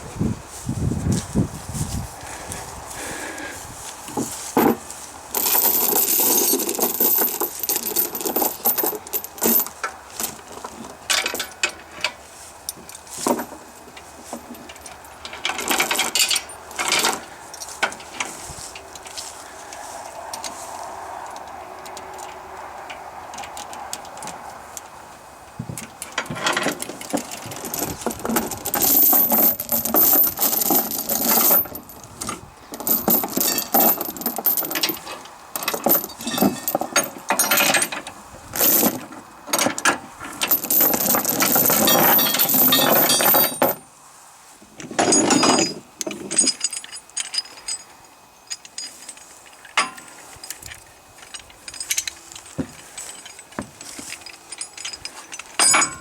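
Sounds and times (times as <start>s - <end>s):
steel chains rattling and clinking: 4.2s - 24.3s, 25.6s - 43.9s, 44.8s - 56.0s.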